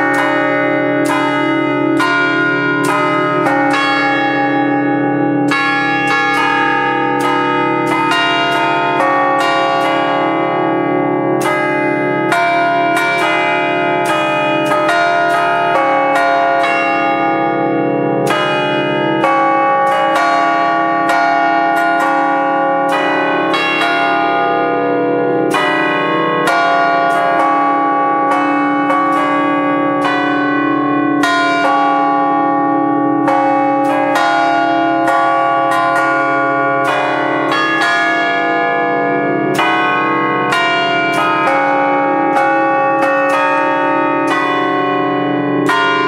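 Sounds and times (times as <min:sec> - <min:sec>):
church bells ringing: 0:00.0 - 0:46.0.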